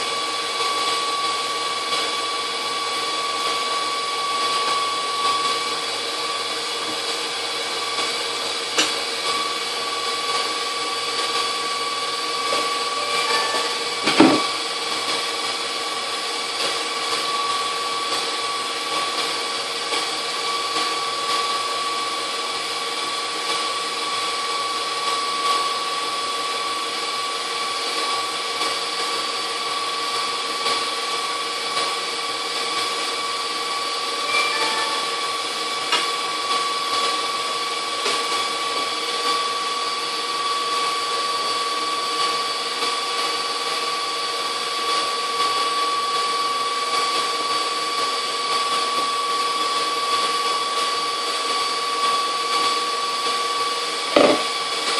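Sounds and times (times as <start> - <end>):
stand mixer motor whining: 0.0 - 54.9.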